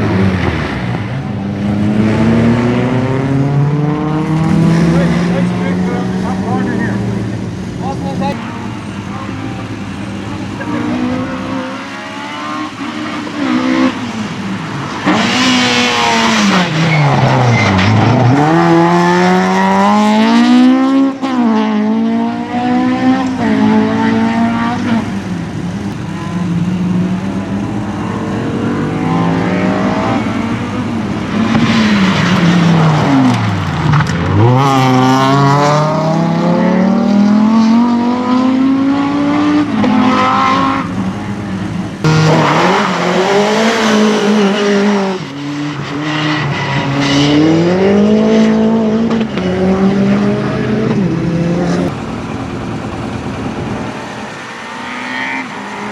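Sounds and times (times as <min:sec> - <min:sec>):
racing car engine revving: 0:00.0 - 0:55.9.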